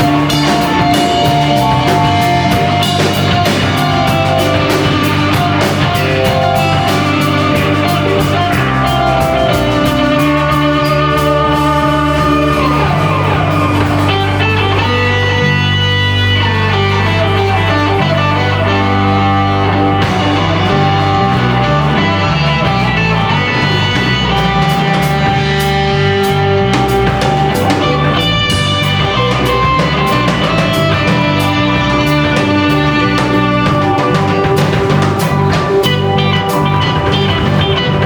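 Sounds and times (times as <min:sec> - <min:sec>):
live rock band playing: 0:00.0 - 0:38.0.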